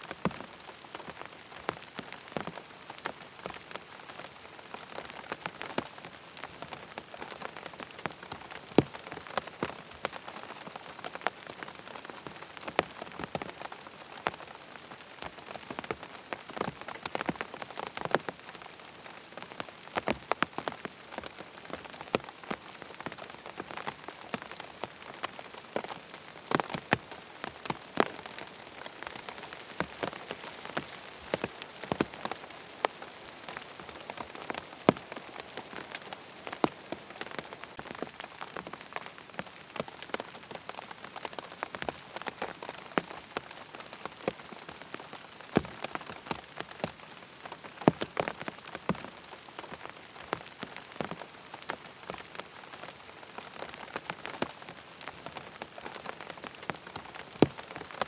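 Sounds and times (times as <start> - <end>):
close raindrop ticks: 0.0 - 58.0
steady rain hiss: 0.0 - 58.0.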